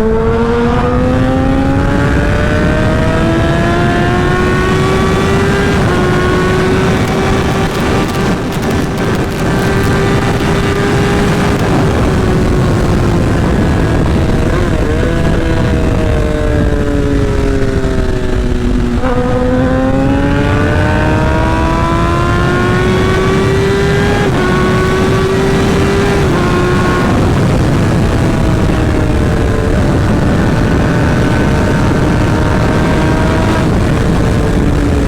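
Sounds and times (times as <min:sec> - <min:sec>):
heavy wind rush: 0:00.0 - 0:35.0
motorcycle engine: 0:00.0 - 0:35.0.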